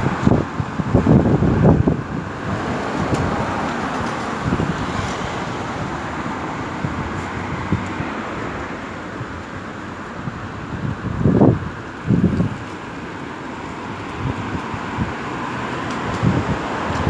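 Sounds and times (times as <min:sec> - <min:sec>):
cars driving past: 0:00.0 - 0:10.2, 0:11.4 - 0:17.0
wind buffeting microphone: 0:00.0 - 0:17.0.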